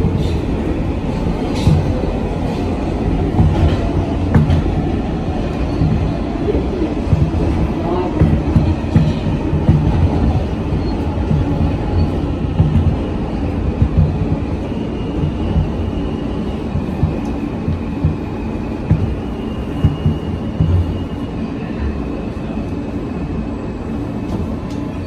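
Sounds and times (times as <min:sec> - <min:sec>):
subway car rumbling on rails: 0:00.0 - 0:25.0.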